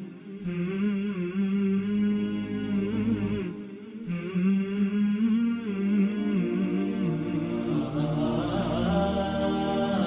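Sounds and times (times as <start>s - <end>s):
voice chanting in long notes: 0.0s - 10.0s.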